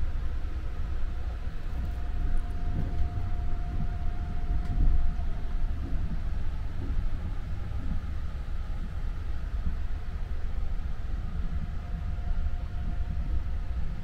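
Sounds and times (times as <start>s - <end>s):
faint steady whine: 0.0s - 14.0s
train rumble: 0.0s - 14.0s.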